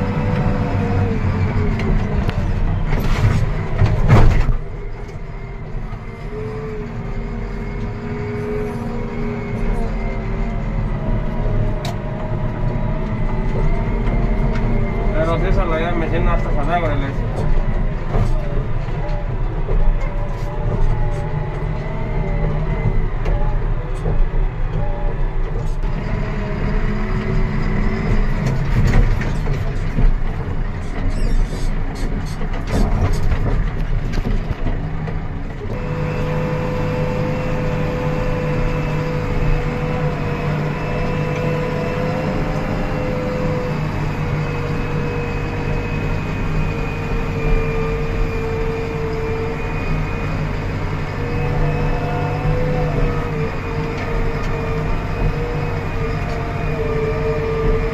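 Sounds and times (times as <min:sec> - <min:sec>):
diesel engine drone in cab: 0:00.0 - 0:57.9
engine drone with high whine: 0:00.0 - 0:57.9.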